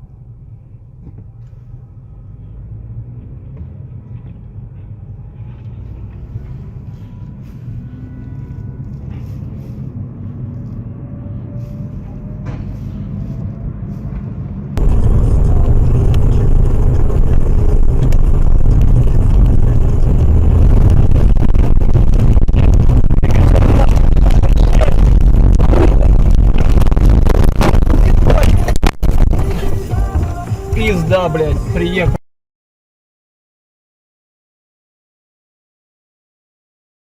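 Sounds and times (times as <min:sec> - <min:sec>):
car driving rumble: 0:00.0 - 0:32.2.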